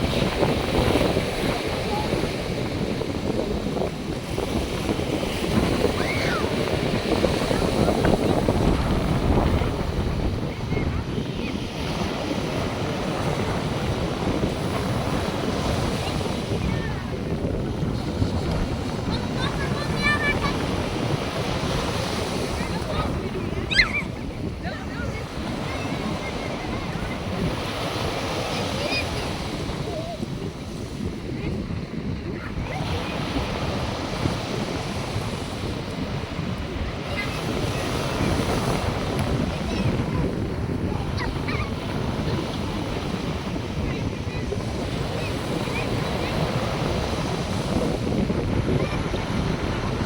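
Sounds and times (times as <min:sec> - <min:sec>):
surf washing onto beach: 0:00.0 - 0:50.0
wind rumbling on microphone: 0:00.0 - 0:50.0.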